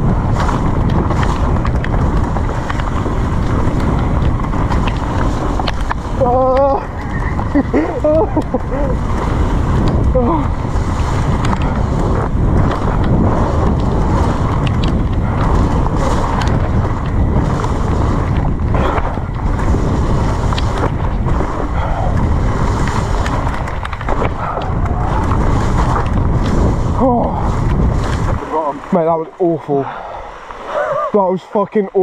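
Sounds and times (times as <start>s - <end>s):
bike knocks and rattles: 0.0s - 28.7s
bike tyre noise: 0.0s - 32.0s
wind rumbling on microphone: 0.0s - 32.0s.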